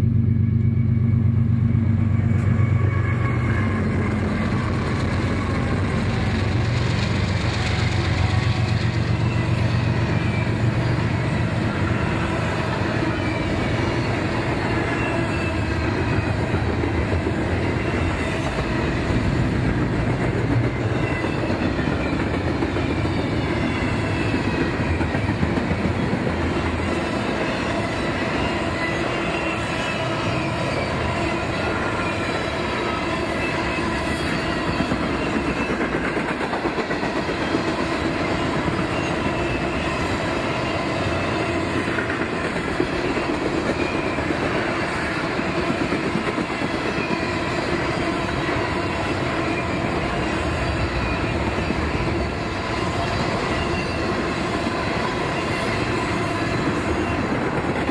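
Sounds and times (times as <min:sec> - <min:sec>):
train wheels rumbling and clattering: 0:00.0 - 0:57.9
wheels squealing on rail: 0:00.1 - 0:57.9.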